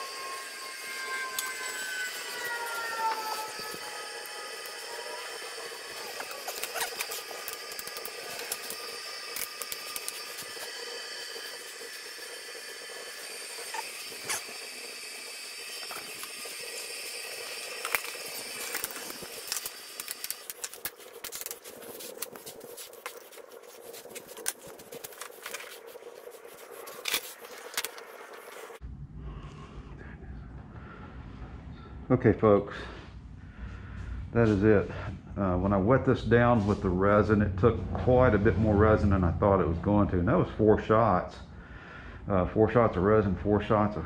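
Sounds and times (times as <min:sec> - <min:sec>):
steady whine and hum: 0:00.0 - 0:44.0.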